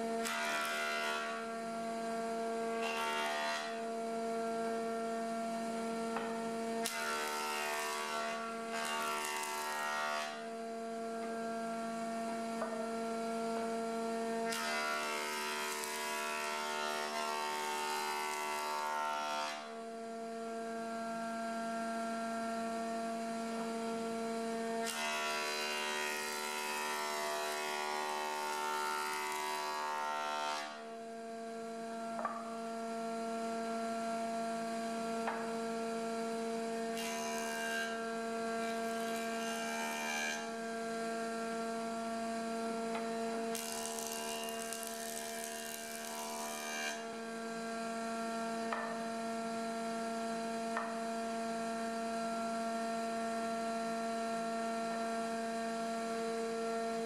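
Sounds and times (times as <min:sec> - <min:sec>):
jointer-planer motor hum: 0:00.1 - 0:21.2, 0:22.1 - 0:30.7, 0:31.7 - 0:52.7.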